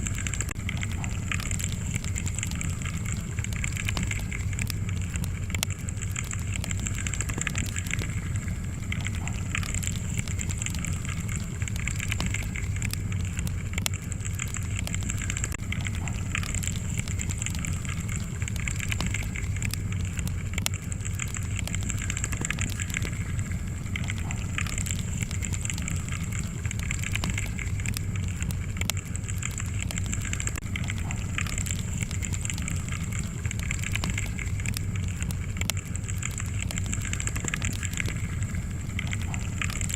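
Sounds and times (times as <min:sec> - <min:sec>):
logs crackling and popping: 0:00.0 - 0:39.9
wood fire rumbling and hissing: 0:00.0 - 0:39.9.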